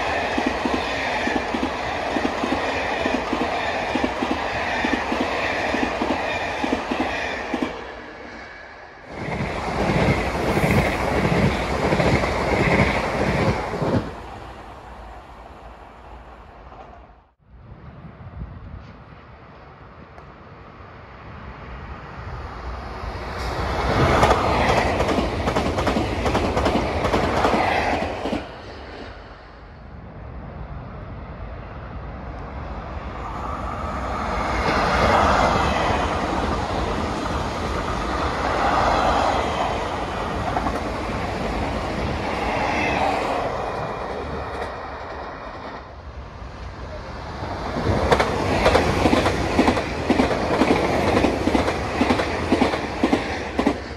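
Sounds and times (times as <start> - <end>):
electric trains passing: 0.0 - 53.9.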